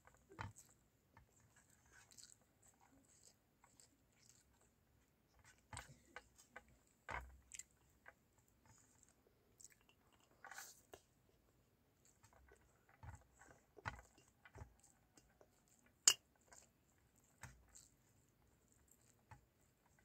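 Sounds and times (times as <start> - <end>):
child chewing: 0.1 - 4.7, 5.3 - 11.1, 12.0 - 20.0.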